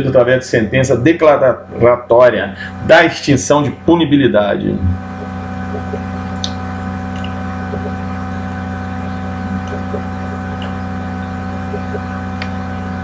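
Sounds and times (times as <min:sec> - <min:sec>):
electrical hum with hiss: 0:00.0 - 0:13.0.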